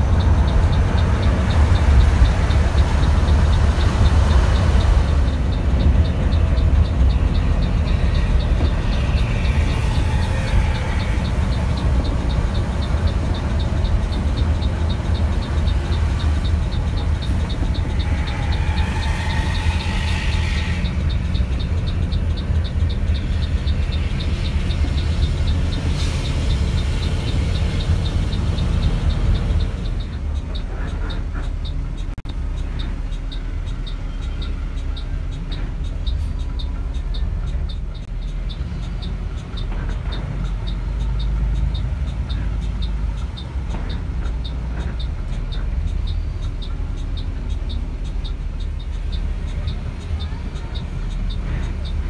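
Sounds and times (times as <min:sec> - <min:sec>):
bus engine and road noise: 0:00.0 - 0:52.0
bus exhaust roar: 0:00.0 - 0:52.0
steady light ticking: 0:00.0 - 0:52.0.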